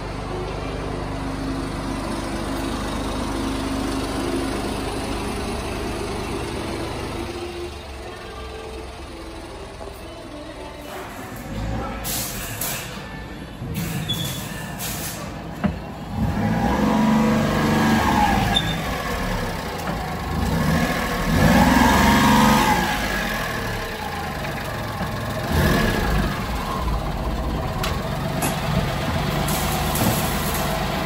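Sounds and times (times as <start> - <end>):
small truck engine revving and idling: 0.0 - 13.8, 14.6 - 31.0.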